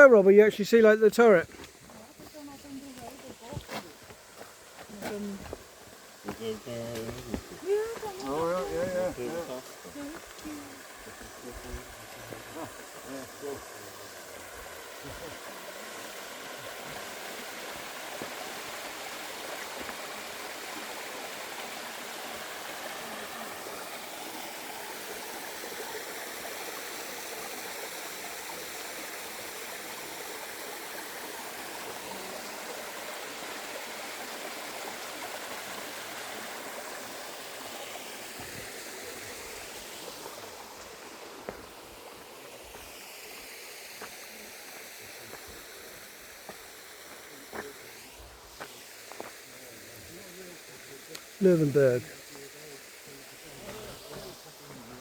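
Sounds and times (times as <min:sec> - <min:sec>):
waterfall rushing over stone: 0:00.0 - 0:55.0.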